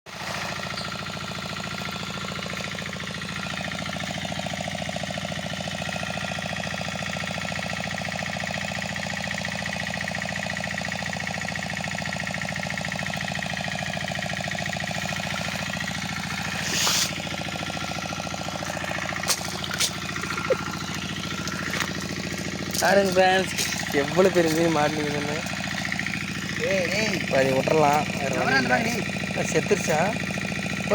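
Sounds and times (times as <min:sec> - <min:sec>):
boat engine running: 0:00.1 - 0:30.9.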